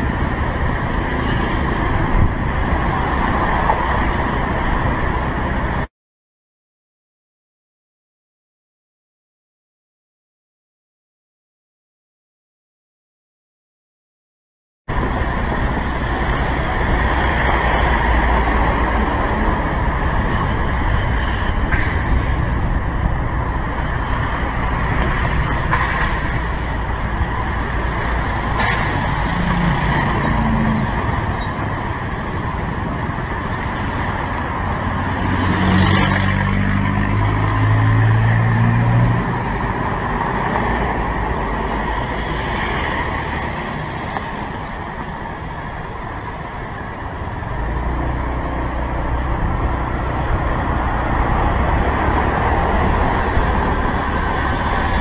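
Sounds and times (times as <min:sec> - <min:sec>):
wind and road noise: 0:00.0 - 0:05.9, 0:14.9 - 0:55.0.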